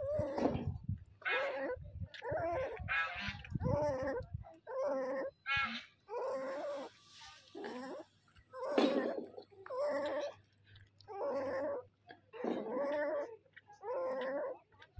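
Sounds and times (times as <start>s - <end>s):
puppy whining: 0.0s - 14.9s.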